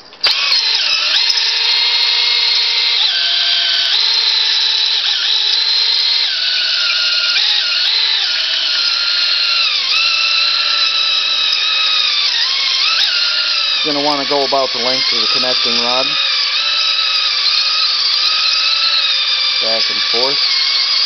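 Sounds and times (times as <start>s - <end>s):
cordless drill motor whine: 0.0s - 21.0s.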